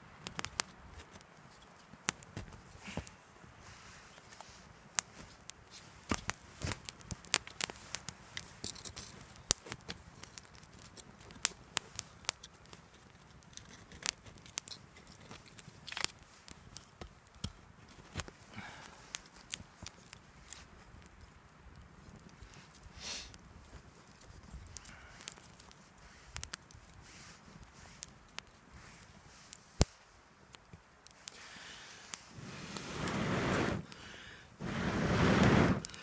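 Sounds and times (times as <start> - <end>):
campfire crackling and popping: 0.1 - 36.0.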